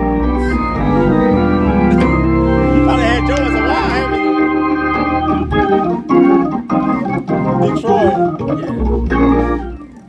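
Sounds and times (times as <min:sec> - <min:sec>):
low bass organ note: 0:00.0 - 0:09.8
gospel organ playing: 0:00.0 - 0:10.0.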